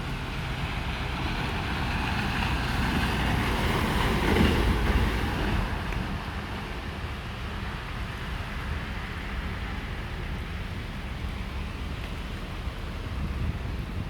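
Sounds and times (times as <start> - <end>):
rain: 0.0 - 14.0
wind buffeting microphone: 0.0 - 14.0.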